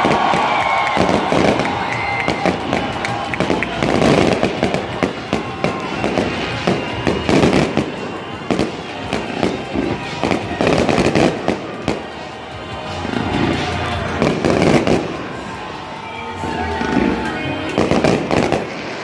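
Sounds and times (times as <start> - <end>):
firework crackles: 0.0 - 19.0.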